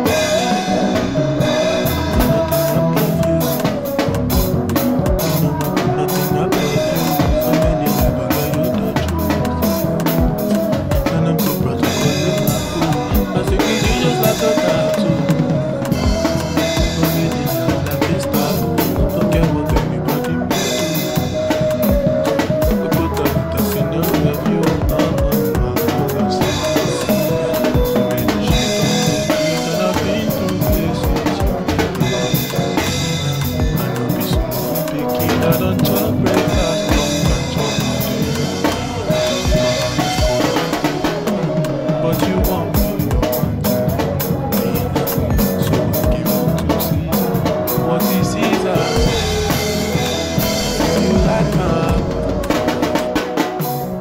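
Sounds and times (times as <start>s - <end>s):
drum kit played hard: 0.0s - 54.0s.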